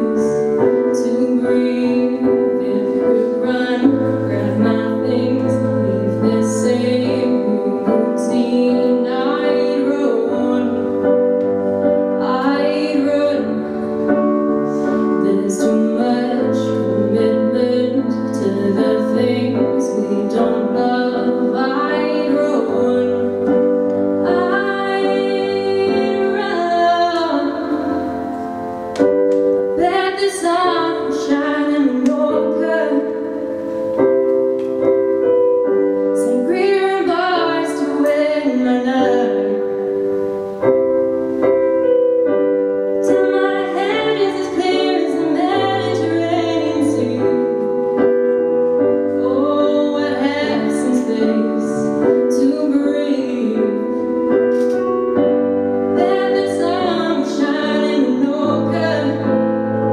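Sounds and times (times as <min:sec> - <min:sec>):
woman singing into a microphone: 0:00.0 - 0:34.0, 0:35.2 - 0:40.5, 0:41.6 - 0:59.9
held piano chords: 0:00.0 - 0:59.9.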